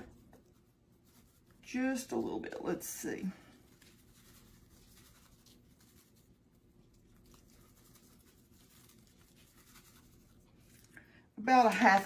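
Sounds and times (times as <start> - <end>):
seasoning sprinkled rustling: 0.0 - 12.0.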